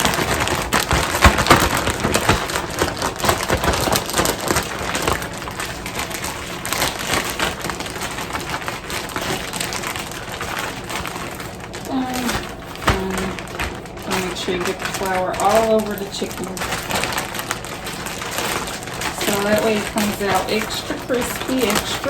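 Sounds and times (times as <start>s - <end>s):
bag of flour rustling: 0.0s - 22.0s.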